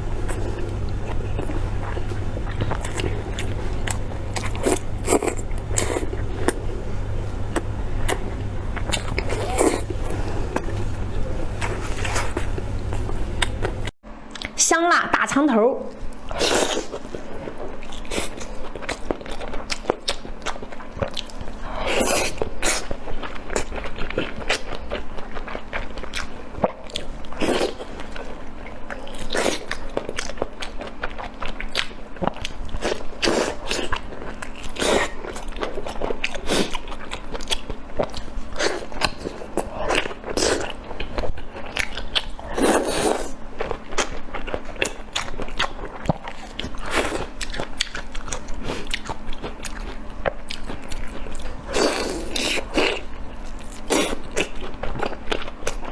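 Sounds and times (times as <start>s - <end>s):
close chewing and biting: 0.0s - 14.5s, 16.0s - 55.9s.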